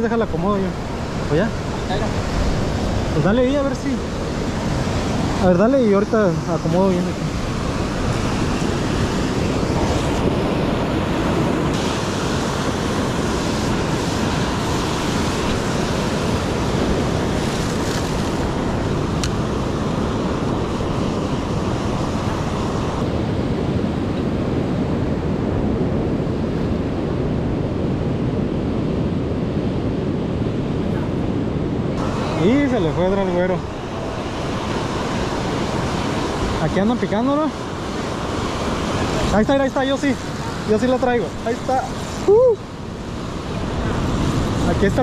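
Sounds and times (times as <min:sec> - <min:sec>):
ocean surf washing on shore: 0:00.0 - 0:45.0
wind buffeting microphone: 0:00.0 - 0:45.0.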